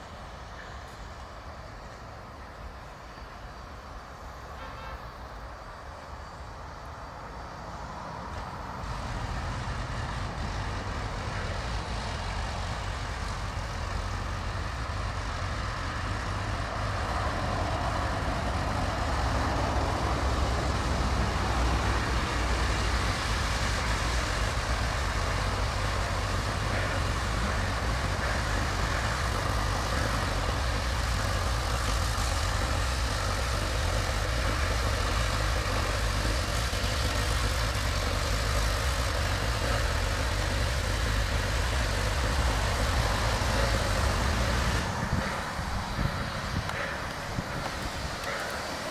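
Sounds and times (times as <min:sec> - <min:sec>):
steam locomotive hiss: 0:00.0 - 0:48.9
steam locomotive rumble: 0:00.0 - 0:48.9.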